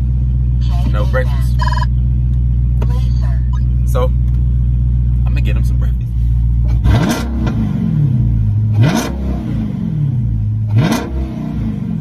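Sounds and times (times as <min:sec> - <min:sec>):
car engine idling: 0:00.0 - 0:08.9, 0:09.8 - 0:10.9
car engine revving: 0:00.0 - 0:12.0.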